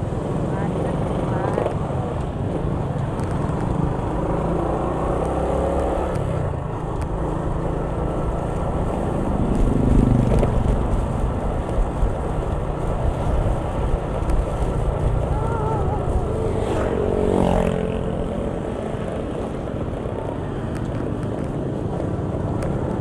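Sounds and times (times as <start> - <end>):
engine hum: 0.0 - 23.0
traffic rumble: 0.0 - 23.0.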